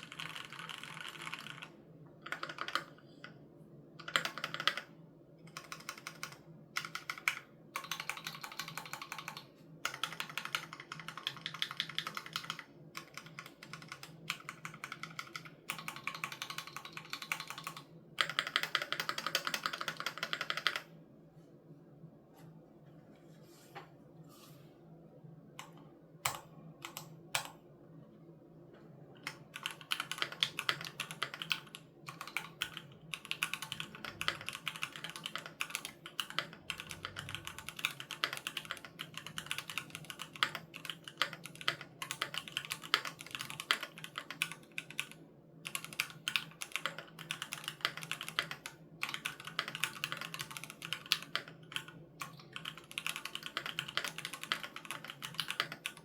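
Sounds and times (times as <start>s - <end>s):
mechanical keyboard typing: 0.0s - 3.0s, 4.0s - 4.9s, 5.5s - 20.9s, 25.6s - 27.6s, 29.2s - 56.0s.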